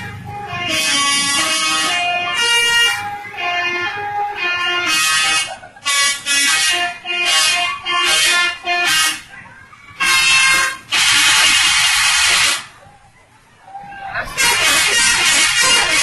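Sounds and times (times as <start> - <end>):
multi-tone air horn tune: 0.0 - 9.4, 10.0 - 12.7, 14.3 - 16.0.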